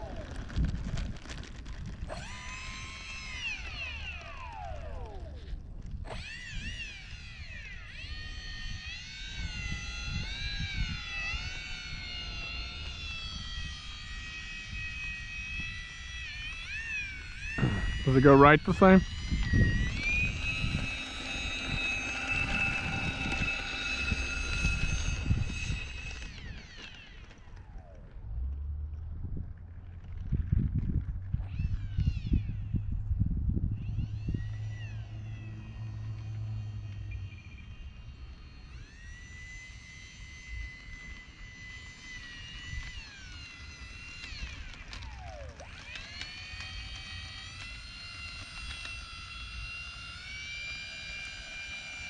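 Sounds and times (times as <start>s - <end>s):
electric ducted fans whining: 0.0s - 52.0s
wind rumble on microphone: 0.0s - 52.0s.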